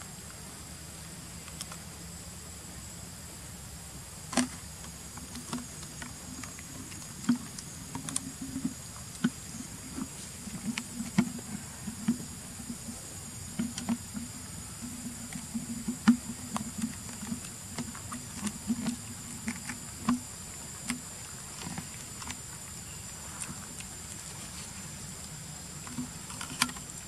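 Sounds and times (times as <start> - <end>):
monkey chewing food: 5.2 - 27.0.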